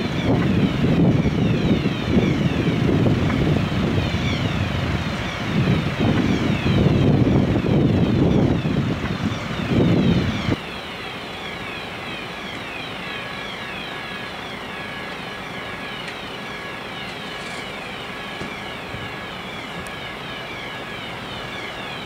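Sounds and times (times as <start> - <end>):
fire engine running noise: 0.0 - 22.0
high falling whine: 0.0 - 22.0.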